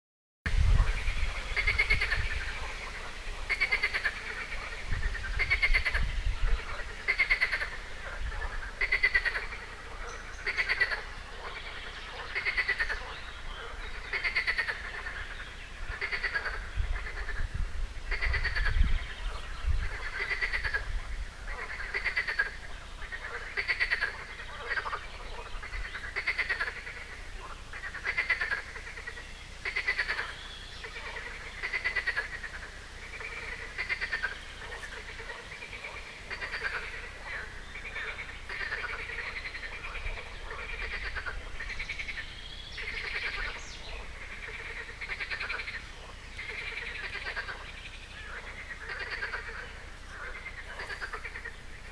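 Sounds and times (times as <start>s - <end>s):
frogs croaking: 0.5s - 51.9s.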